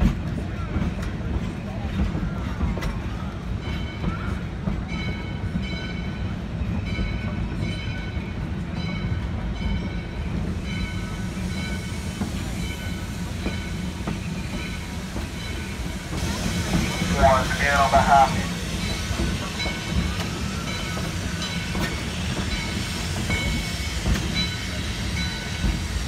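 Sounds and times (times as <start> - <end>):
train car rumbling on track: 0.0 - 26.0.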